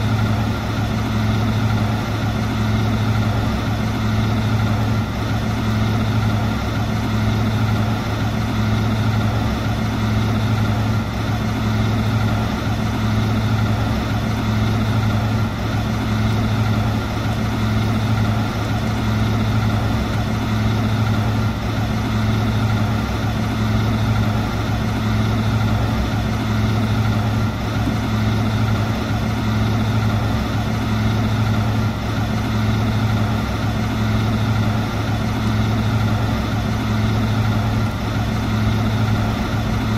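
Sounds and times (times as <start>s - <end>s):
garbage truck diesel engine idling: 0.0s - 39.9s.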